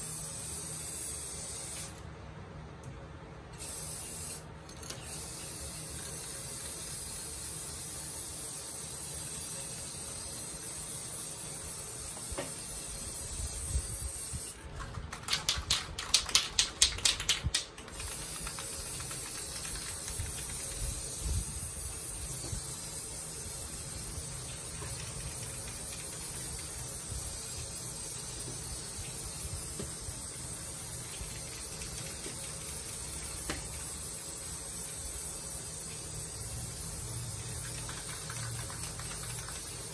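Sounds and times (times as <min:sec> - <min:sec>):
aerosol spray can hissing: 0:00.0 - 0:02.0, 0:03.6 - 0:04.4, 0:05.1 - 0:14.6, 0:17.9 - 0:39.9
spray can ball rattling: 0:00.1 - 0:02.0, 0:03.6 - 0:39.9.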